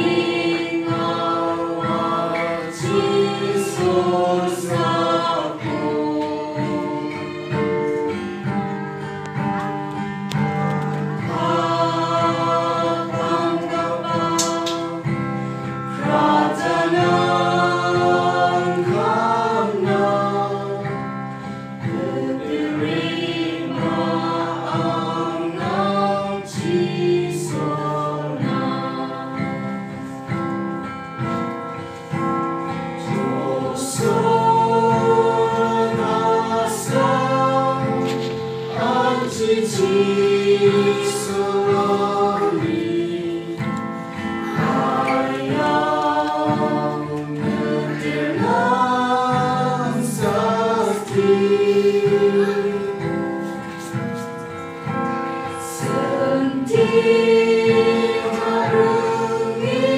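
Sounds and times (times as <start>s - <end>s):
group singing a hymn: 0.0s - 59.9s
strummed acoustic guitar: 0.0s - 59.9s.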